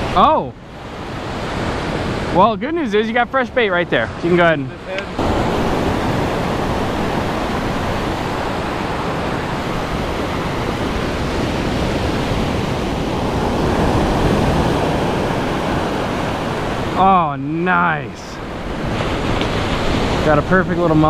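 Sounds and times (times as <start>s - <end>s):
ocean surf breaking on beach: 0.0s - 21.0s.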